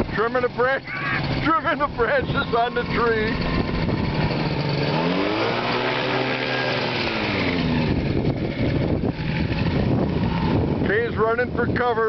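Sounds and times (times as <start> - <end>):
ultralight aircraft flying low: 0.0 - 11.8.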